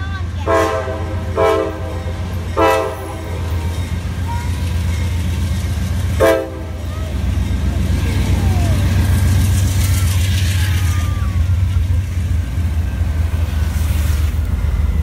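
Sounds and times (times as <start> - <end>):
diesel train engine rumble: 0.0 - 15.0.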